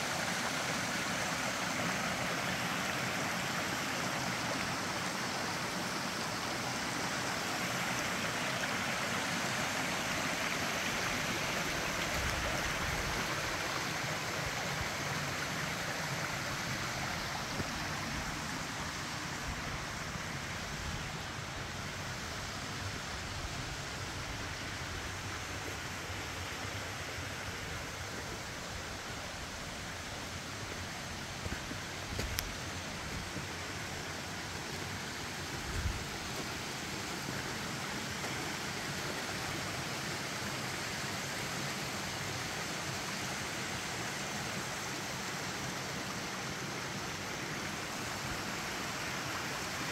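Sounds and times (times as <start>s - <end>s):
creek water over rocks: 0.0s - 49.9s.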